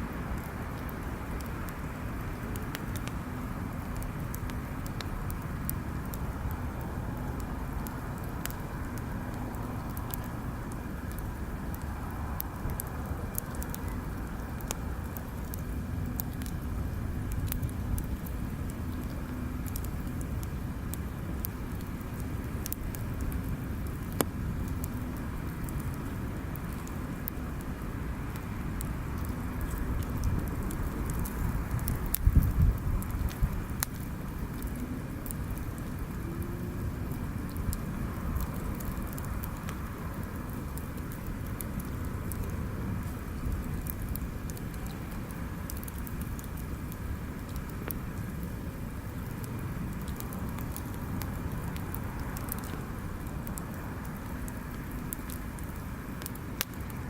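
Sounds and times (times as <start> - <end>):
low background rumble: 0.0 - 57.0
wood bonfire crackling: 0.0 - 57.0.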